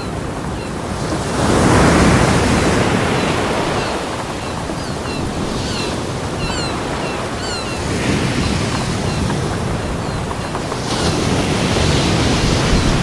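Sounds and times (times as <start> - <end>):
ocean waves rushing: 0.0 - 13.0.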